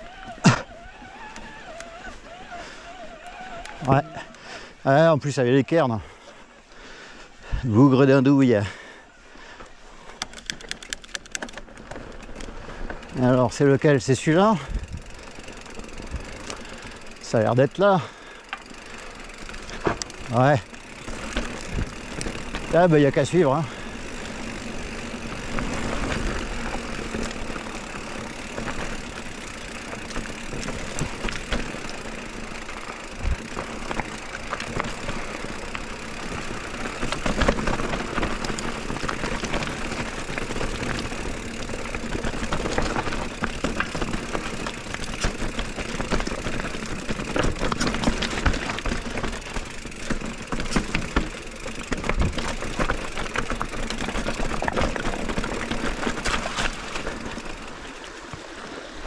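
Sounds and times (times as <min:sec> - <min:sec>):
bike clicks and rattles: 0:00.0 - 0:59.0
bike tyres rolling on stones: 0:00.0 - 0:59.0.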